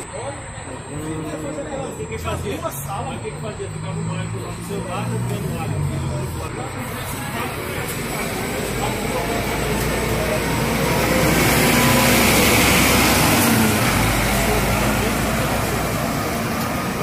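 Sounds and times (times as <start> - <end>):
coach driving past: 2.2 - 17.0.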